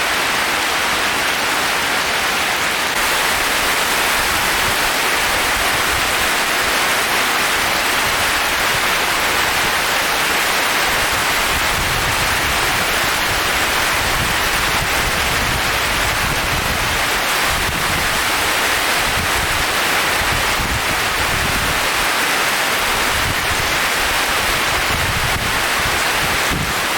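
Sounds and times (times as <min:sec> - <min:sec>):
heavy rain pouring: 0:00.0 - 0:26.9
strong wind: 0:00.0 - 0:26.9.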